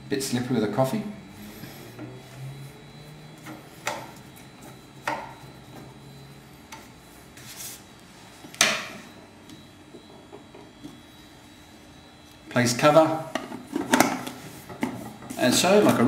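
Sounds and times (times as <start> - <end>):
faint low hum: 0.0 - 14.9.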